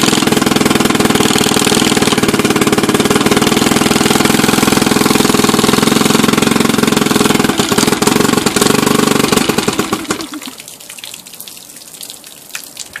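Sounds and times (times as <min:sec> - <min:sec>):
two-stroke outboard motor running: 0:00.0 - 0:10.4.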